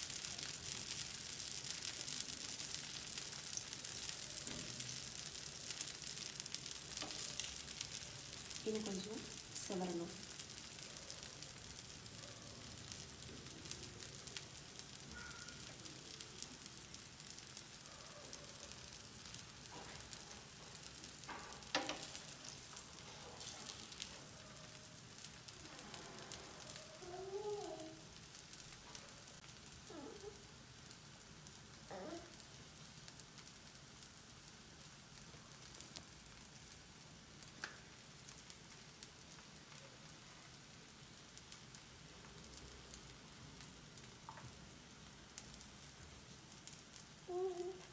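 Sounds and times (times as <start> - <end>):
batter sizzling in oil: 0.0 - 47.9.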